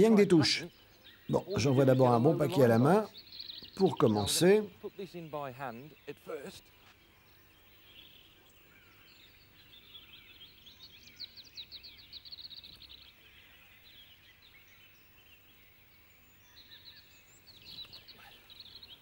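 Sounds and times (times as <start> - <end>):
faint songbird song and calls: 0.0 - 19.0
rapid bird trill: 0.0 - 19.0.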